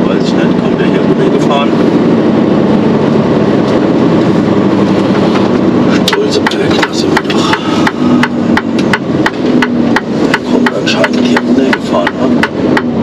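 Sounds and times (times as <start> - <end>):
truck engine hum: 0.0 - 13.0.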